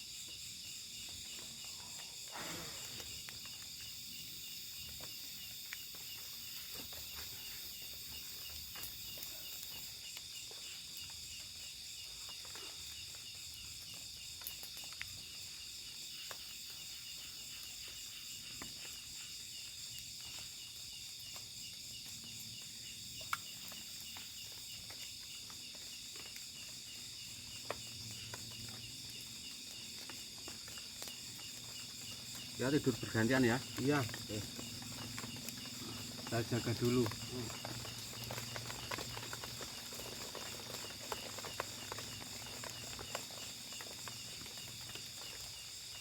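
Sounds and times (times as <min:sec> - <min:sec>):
crickets and insects trilling: 0:00.0 - 0:46.0.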